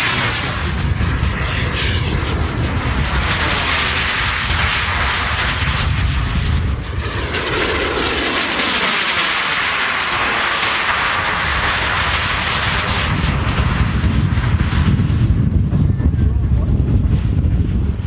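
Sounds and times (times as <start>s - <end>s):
jet turbine whine: 0.0s - 18.0s
low rumble: 0.0s - 18.0s.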